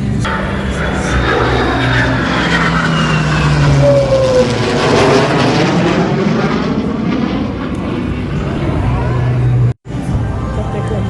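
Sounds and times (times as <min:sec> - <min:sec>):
airplane engine roar passing: 0:00.0 - 0:11.0.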